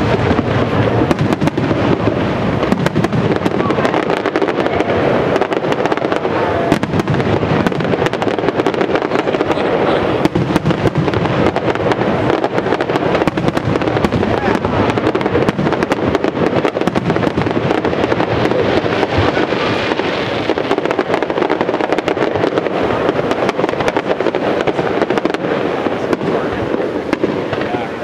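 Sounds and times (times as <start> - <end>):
sharp crackles and pops: 0.0 - 28.0.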